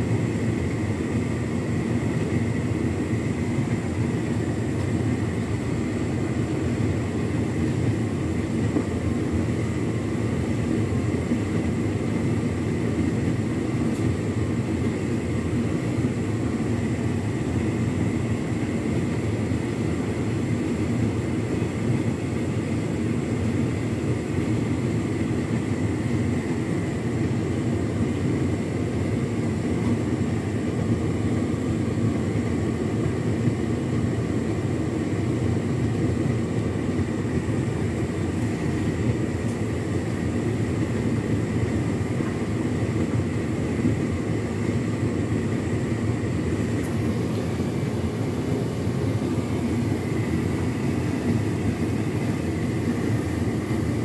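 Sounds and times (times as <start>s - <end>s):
tumble dryer drone: 0.0s - 54.0s.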